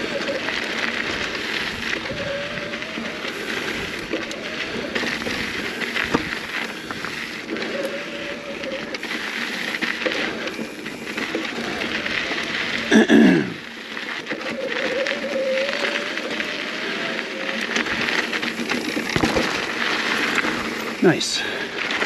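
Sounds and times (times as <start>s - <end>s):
bike rattling and knocking: 0.0s - 13.4s, 17.6s - 22.0s
bike tyres crunching over dirt: 0.0s - 22.0s.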